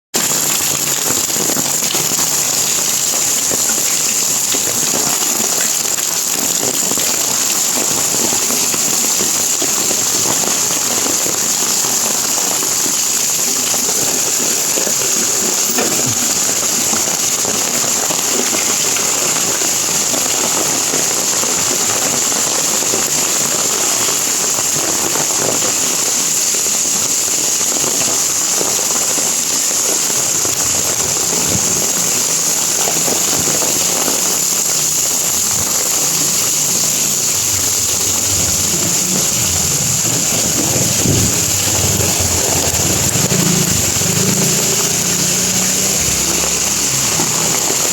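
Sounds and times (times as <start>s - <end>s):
heavy rain hissing: 0.2s - 47.9s
raindrop impacts crackling: 0.2s - 47.9s.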